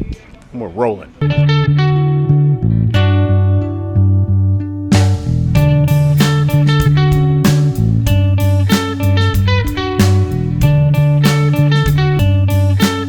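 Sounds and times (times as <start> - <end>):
guitar-driven music with bass: 1.2 - 13.0.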